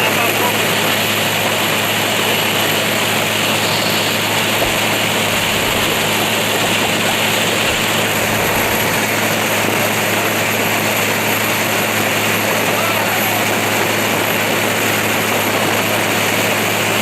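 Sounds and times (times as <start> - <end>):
boat diesel engine droning: 0.0 - 17.0
rush of wind and water: 0.0 - 17.0.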